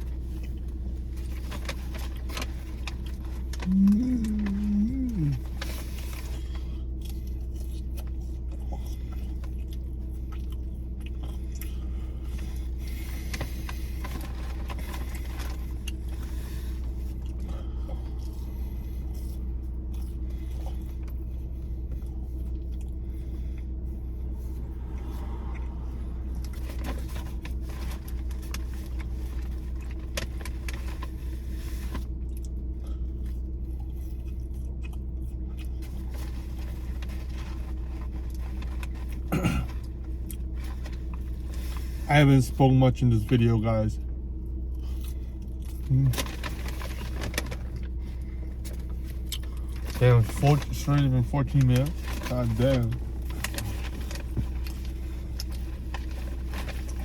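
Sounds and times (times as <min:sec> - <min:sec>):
food handling clicks and rustles: 0:00.0 - 0:18.5, 0:26.4 - 0:42.0, 0:44.8 - 0:57.0
low mechanical hum: 0:00.0 - 0:57.0.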